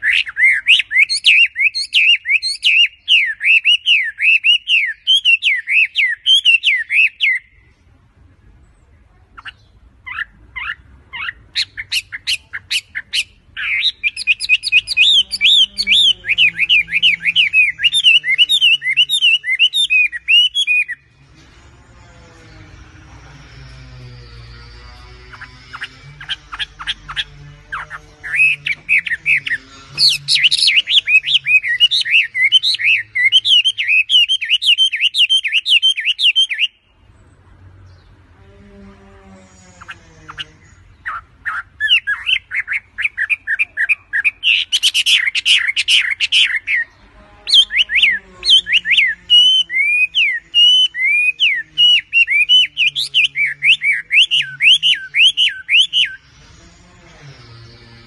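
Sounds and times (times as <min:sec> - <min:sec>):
bird singing whistled notes: 0:00.0 - 0:07.6, 0:09.4 - 0:21.2, 0:23.7 - 0:36.9, 0:39.8 - 0:56.3.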